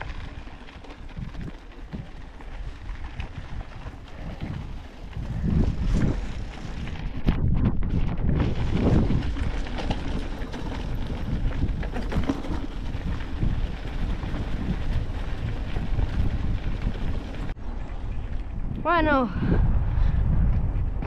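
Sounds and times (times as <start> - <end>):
bike rumbling over rough ground: 0.0 - 19.2
wind buffeting microphone: 0.0 - 21.0.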